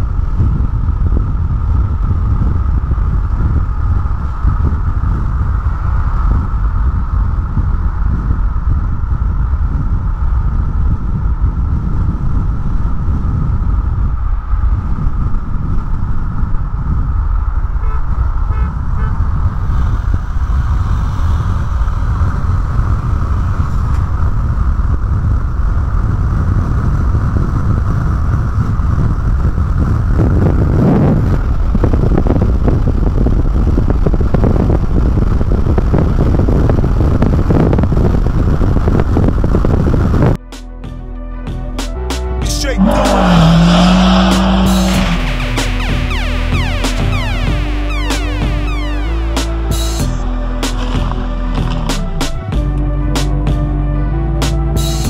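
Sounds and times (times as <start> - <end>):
road and wind noise inside car: 0.0 - 55.0.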